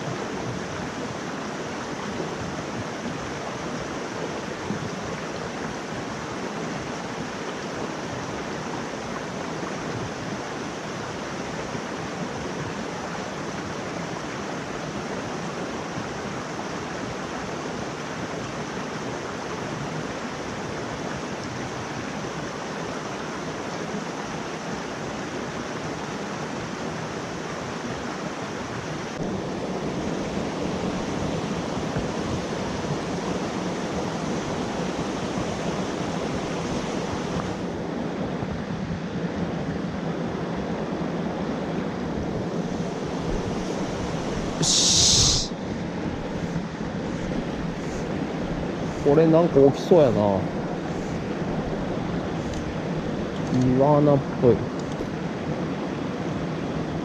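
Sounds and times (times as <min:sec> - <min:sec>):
stream water rushing over rocks: 0:00.0 - 0:57.0.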